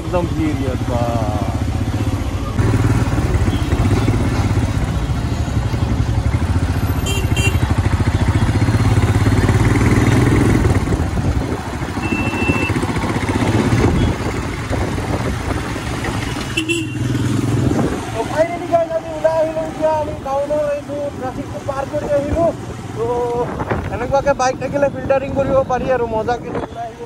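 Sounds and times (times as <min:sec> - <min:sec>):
motorcycle engine running: 0:00.0 - 0:25.5
road and wind noise: 0:00.0 - 0:27.0.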